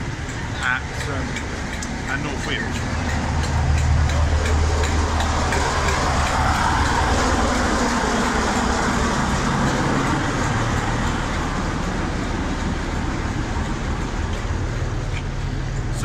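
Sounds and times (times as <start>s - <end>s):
diesel locomotive idling: 0.0s - 16.0s.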